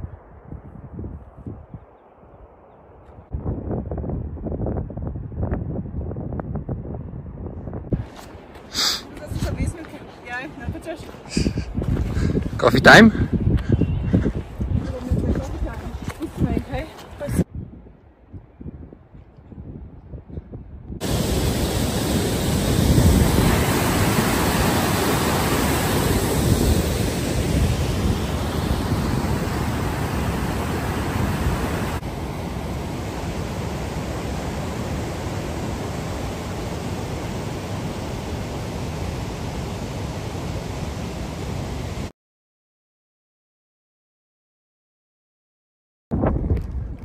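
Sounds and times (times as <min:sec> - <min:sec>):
wind blowing across microphone: 0:00.0 - 0:42.1, 0:46.1 - 0:47.0.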